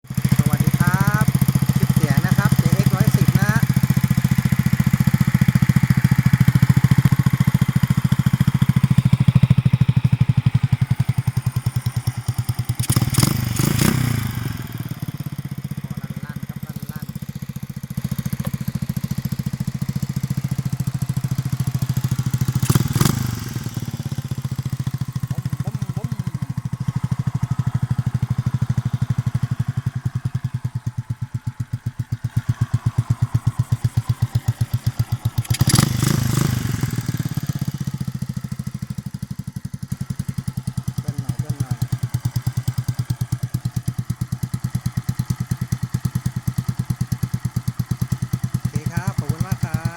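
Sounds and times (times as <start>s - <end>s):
motorcycle engine idling: 0.0s - 49.9s
motorcycle engine revving: 0.0s - 49.9s.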